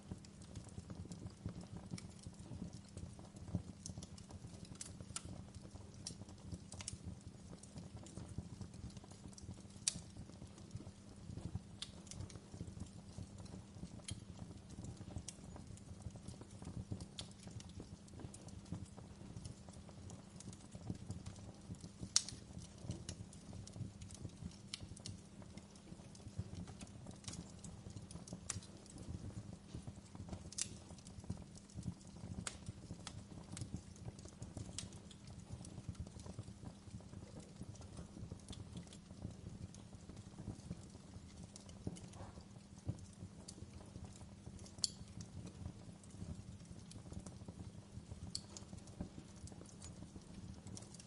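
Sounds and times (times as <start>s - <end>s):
wood fire crackling: 0.0s - 51.0s
sharp fire pops: 3.5s - 47.5s, 48.1s - 51.0s.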